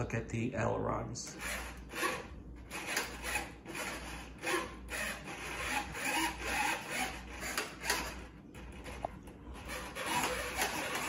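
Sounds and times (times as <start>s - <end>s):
servos whirring: 1.4s - 11.0s.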